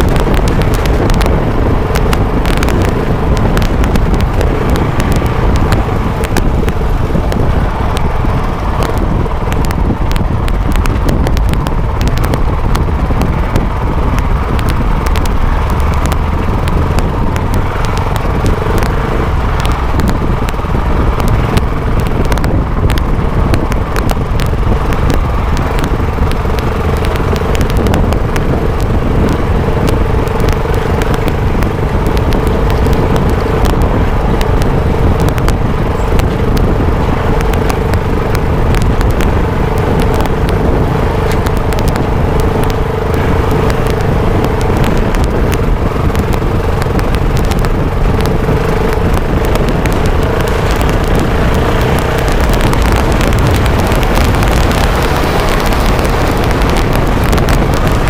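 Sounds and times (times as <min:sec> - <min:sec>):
dirt bike engine running: 0:00.0 - 0:58.0
wind rumble on microphone: 0:00.0 - 0:58.0
small clicks: 0:00.1 - 0:58.0.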